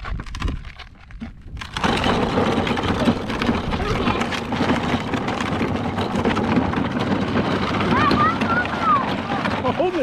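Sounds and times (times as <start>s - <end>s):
toy wheels rolling over gravel: 0.0s - 10.0s.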